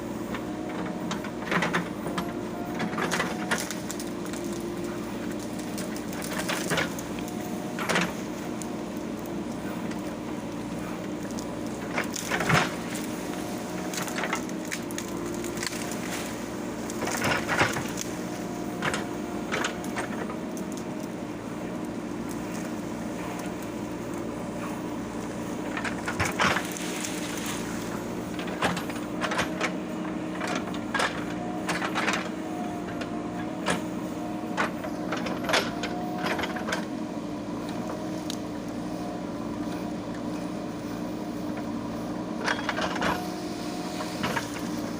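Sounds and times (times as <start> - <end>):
diesel engine running under load: 0.0 - 44.9
sharp cracks and knocks of branches: 0.3 - 38.8, 42.4 - 44.9.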